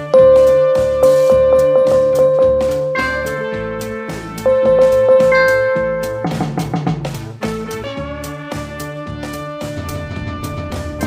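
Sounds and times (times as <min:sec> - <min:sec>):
background music with drums: 0:00.0 - 0:11.0.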